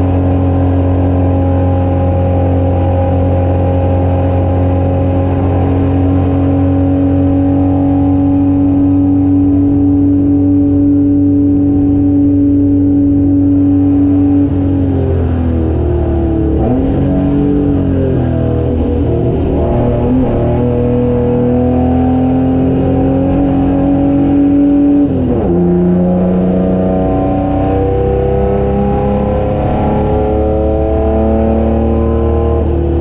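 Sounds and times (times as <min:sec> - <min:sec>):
race car engine at high revs: 0:00.0 - 0:33.0.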